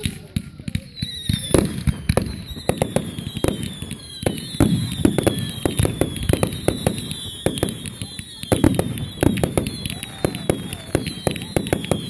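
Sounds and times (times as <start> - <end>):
firework whistles falling: 0.0 - 12.0
fireworks bangs: 0.0 - 12.0.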